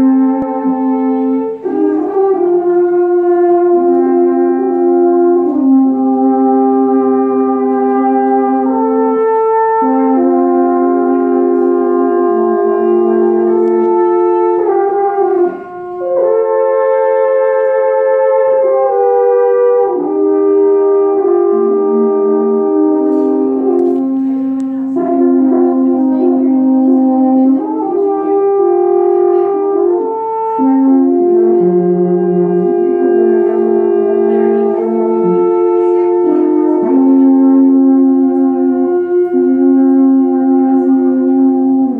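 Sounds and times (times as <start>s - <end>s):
alphorns playing in harmony: 0.0s - 41.9s.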